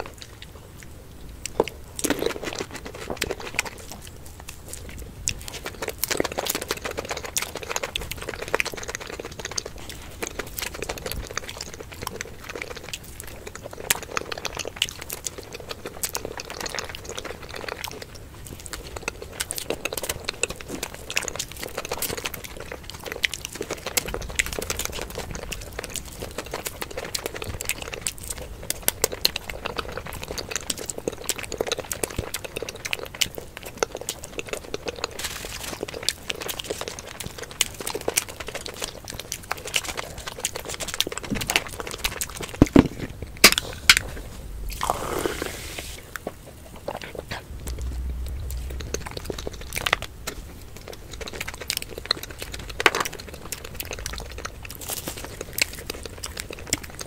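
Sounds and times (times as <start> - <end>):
wet chewing and lip smacks: 0.0 - 57.0.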